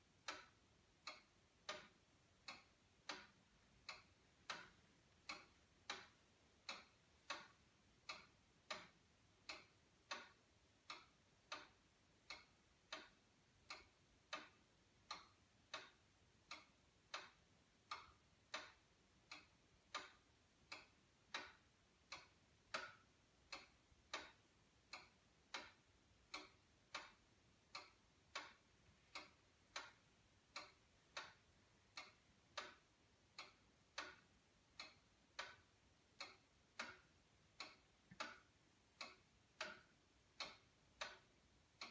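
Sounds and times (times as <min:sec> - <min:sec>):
clock pendulum ticking: 0:00.0 - 0:41.9.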